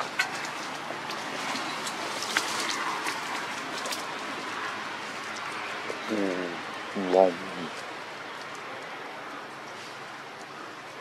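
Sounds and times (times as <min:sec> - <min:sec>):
leaves and twigs rustling: 0:00.0 - 0:11.0.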